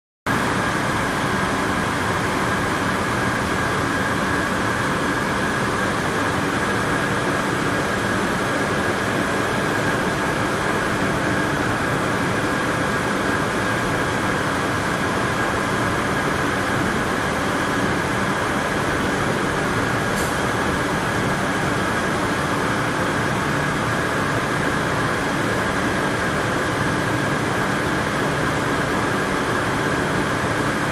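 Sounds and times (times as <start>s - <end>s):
high mechanical whine: 0.3s - 30.9s.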